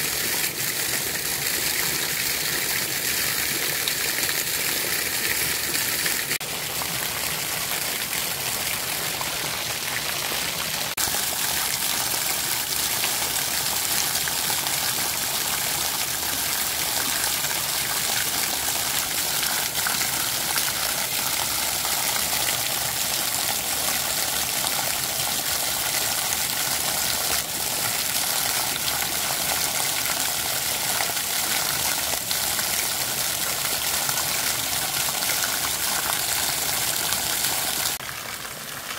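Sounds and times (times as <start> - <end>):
water rushing in a channel: 0.0 - 38.9.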